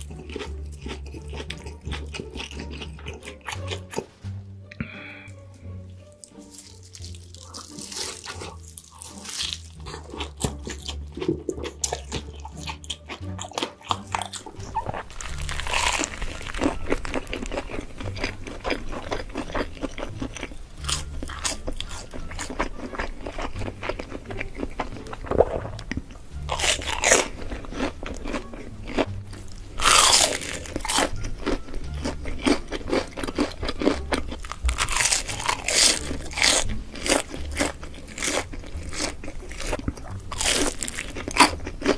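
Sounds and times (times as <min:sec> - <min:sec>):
crisp food crunching: 0:00.0 - 0:04.1, 0:06.0 - 0:41.9.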